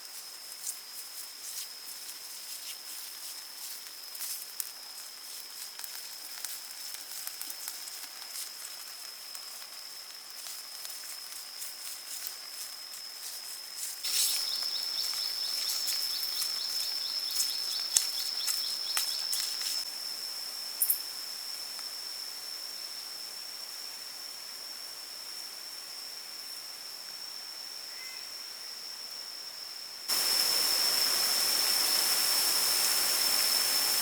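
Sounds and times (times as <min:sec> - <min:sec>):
high-pitched insect drone: 0:00.0 - 0:34.0
pulsing insect call: 0:00.0 - 0:34.0.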